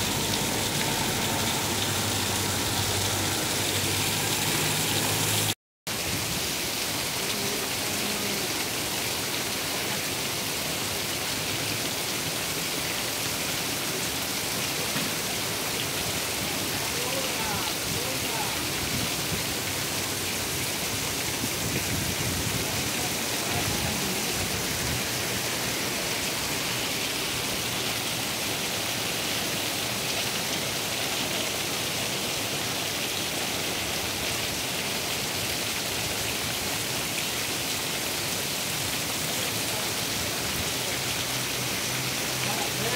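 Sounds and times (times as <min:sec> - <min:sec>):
heavy rain on pavement: 0:00.0 - 0:42.9.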